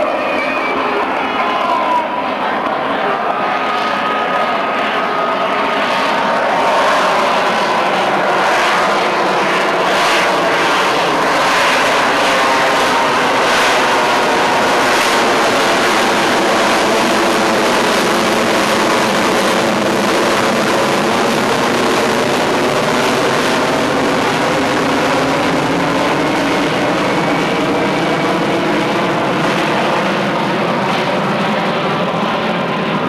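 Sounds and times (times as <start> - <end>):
loud jet engine noise: 0.0 - 33.0.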